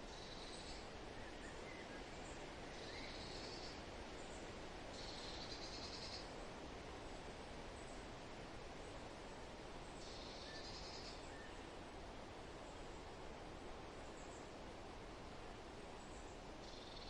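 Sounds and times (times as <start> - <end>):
wind through leaves: 0.0 - 17.0.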